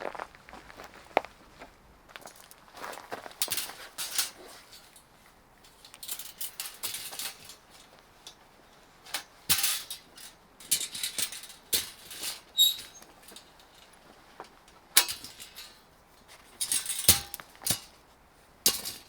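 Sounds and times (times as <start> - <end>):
rustles and light knocks: 0.0 - 19.0.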